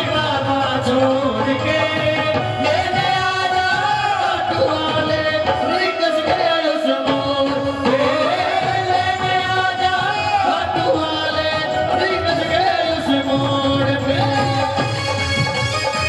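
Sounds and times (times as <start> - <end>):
devotional song with instruments: 0.0 - 16.0.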